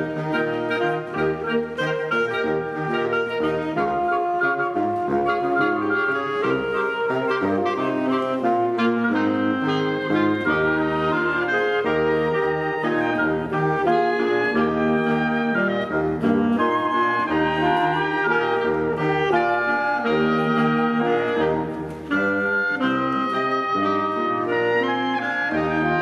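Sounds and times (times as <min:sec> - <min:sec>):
woodwind ensemble playing: 0:00.0 - 0:26.0.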